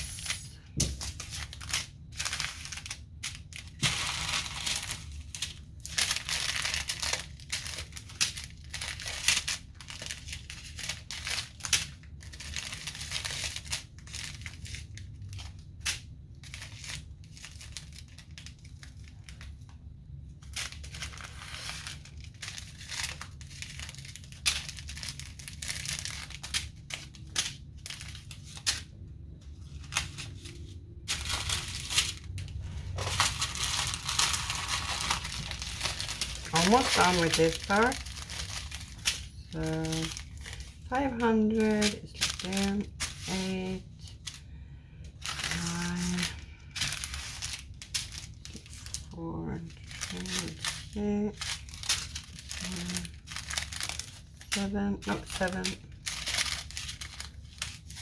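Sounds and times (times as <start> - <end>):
plastic bags crinkling: 0.0 - 58.0.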